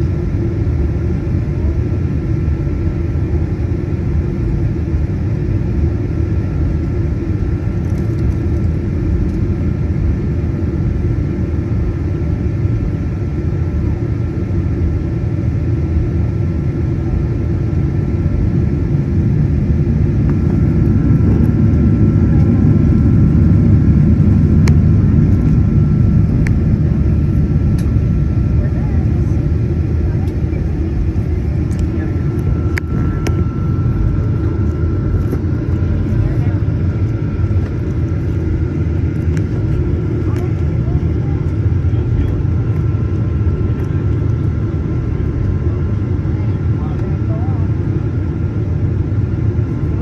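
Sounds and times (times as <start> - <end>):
airplane cabin engine rumble: 0.0 - 50.0
faint steady whine: 0.0 - 50.0.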